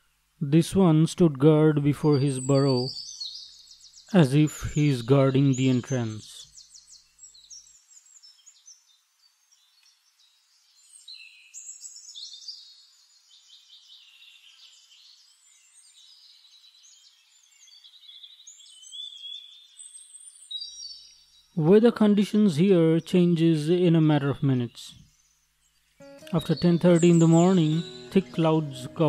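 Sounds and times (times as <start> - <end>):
small birds chirping: 1.6 - 21.8, 22.7 - 29.0.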